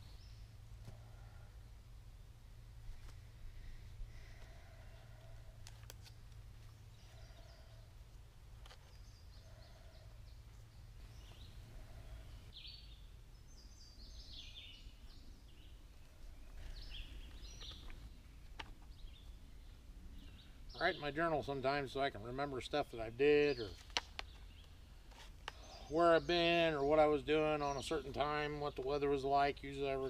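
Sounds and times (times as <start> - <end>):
faint birds chirping: 0.0 - 30.0.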